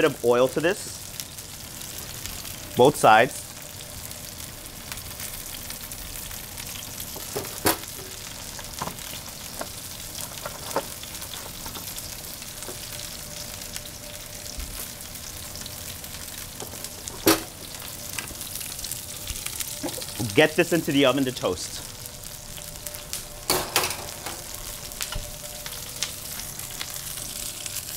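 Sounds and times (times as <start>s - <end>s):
mushrooms sizzling in a pan: 0.0s - 27.9s.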